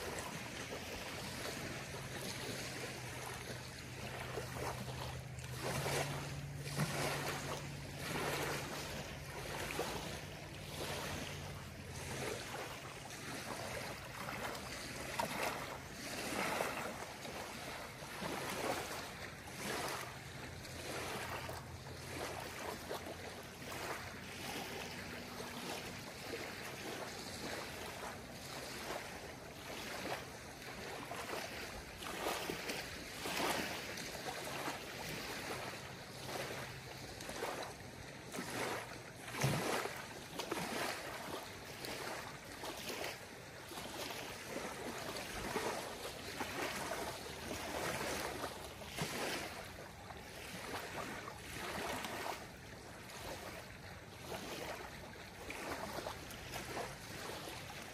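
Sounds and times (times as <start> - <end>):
waves lapping on gravel shore: 0.0 - 57.9.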